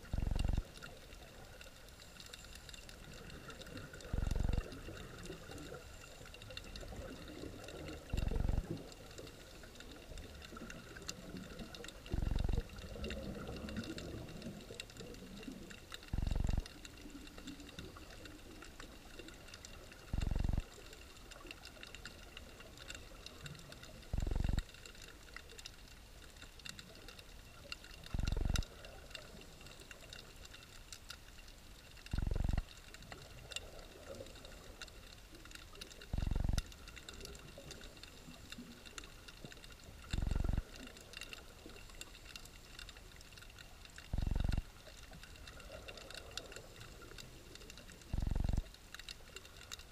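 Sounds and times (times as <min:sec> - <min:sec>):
underwater crackle of tiny clicks: 0:00.0 - 0:49.9.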